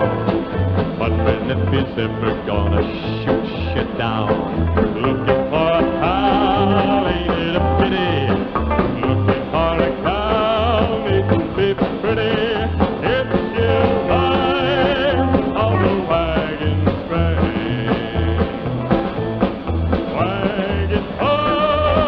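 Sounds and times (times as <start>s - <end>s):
country band playing: 0.0s - 22.0s.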